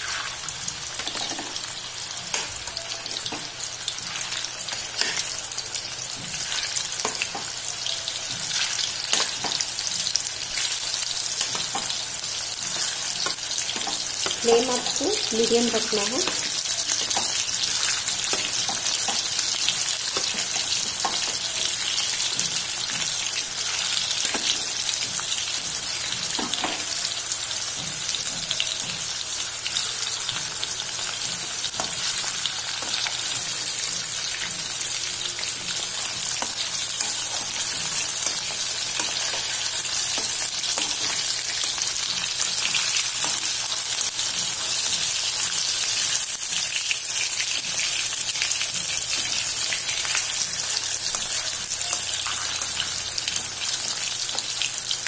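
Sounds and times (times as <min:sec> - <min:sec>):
food frying in hot oil: 0:00.0 - 0:55.0.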